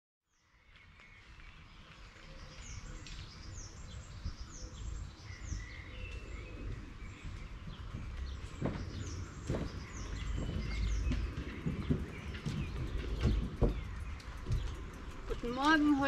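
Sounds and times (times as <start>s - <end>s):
songbirds singing: 0.2s - 16.0s.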